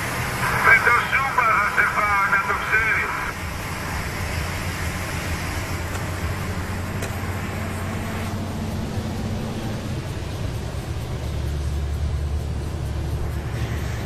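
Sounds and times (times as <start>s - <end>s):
diesel truck engine drone: 0.0s - 14.0s
tyre and road noise: 0.0s - 14.0s.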